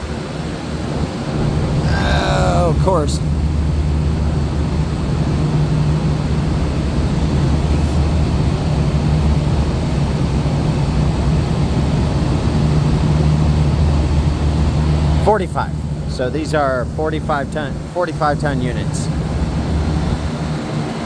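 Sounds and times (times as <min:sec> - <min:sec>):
air conditioning units humming: 0:00.0 - 0:21.0.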